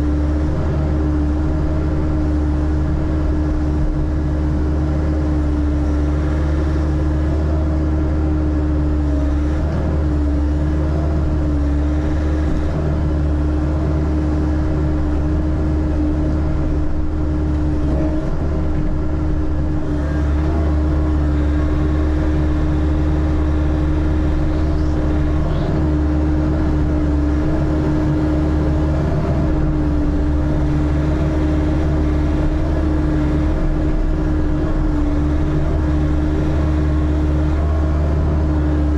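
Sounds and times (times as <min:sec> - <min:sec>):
excavator engine droning: 0:00.0 - 0:38.9.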